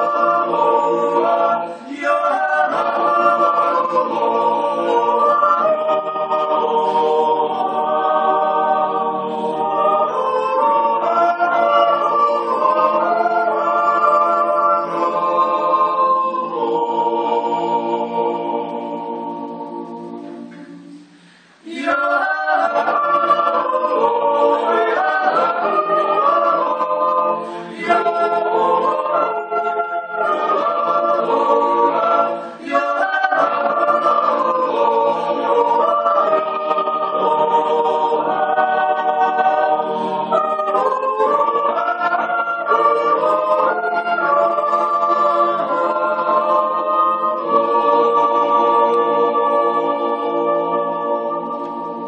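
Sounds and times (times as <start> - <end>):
mixed choir singing a cappella: 0.0 - 52.0.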